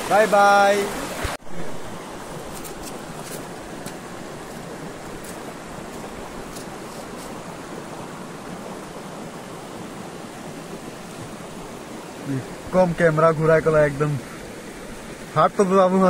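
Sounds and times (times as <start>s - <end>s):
stream running over rapids: 0.0s - 16.0s.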